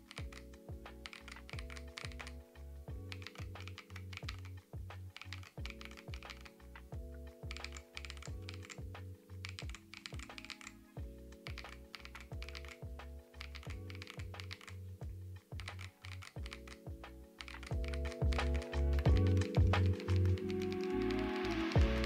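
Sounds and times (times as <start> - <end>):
typing on mechanical keyboard: 0.0 - 2.4, 3.0 - 10.8, 11.4 - 14.8, 15.5 - 22.0.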